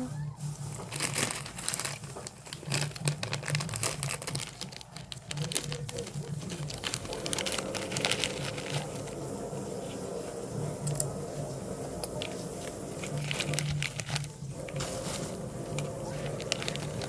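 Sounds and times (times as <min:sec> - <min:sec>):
plastic wrappers crinkling: 0:00.4 - 0:09.6, 0:12.0 - 0:17.0.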